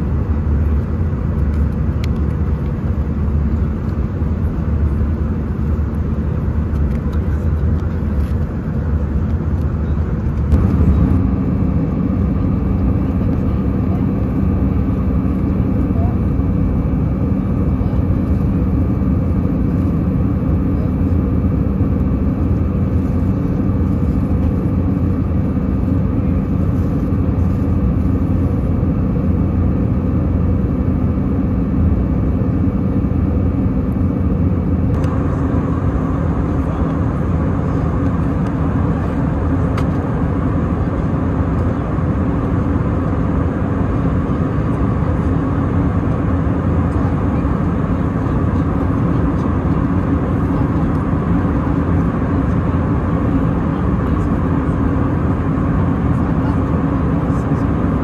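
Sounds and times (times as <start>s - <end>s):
jet engine drone: 0.0s - 58.0s
low hum tones: 0.0s - 58.0s.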